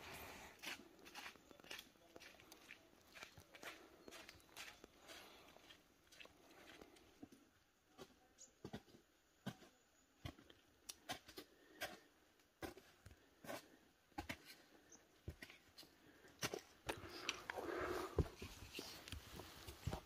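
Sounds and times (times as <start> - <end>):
faint footsteps on trail: 0.0 - 20.0.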